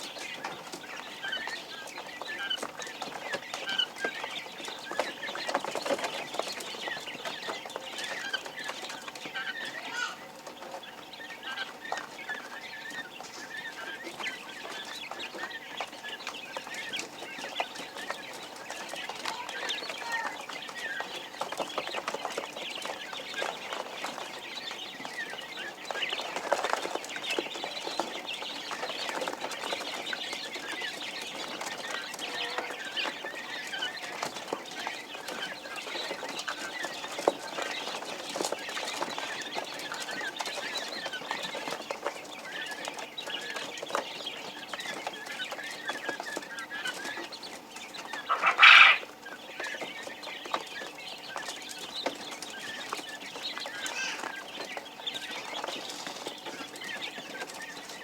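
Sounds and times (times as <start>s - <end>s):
quail chicks peeping: 0.0s - 58.0s.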